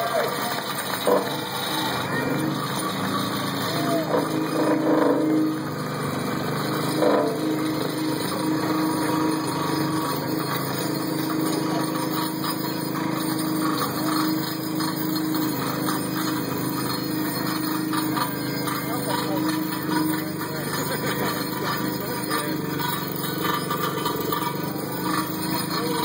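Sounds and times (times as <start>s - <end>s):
excavator engine humming: 0.0s - 26.0s.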